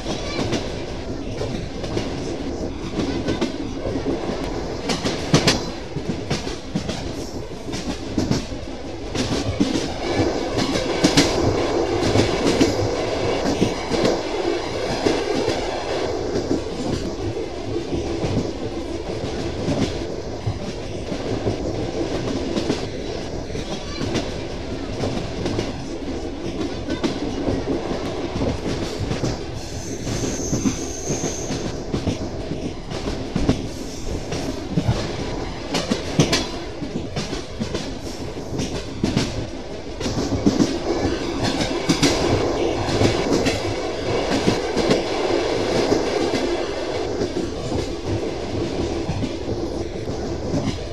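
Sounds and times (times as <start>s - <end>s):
train wheels clattering over rails: 0.0s - 50.9s.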